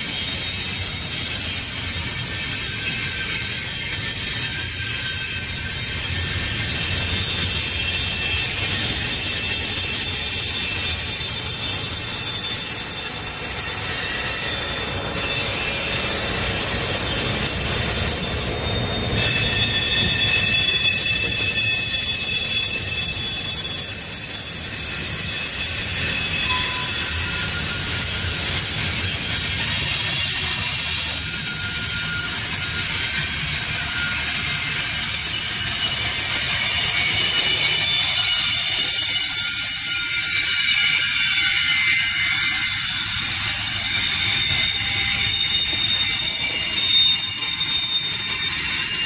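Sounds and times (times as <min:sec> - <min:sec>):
freight train rumbling past: 0:00.0 - 0:49.0
train wheels squealing: 0:00.0 - 0:49.0.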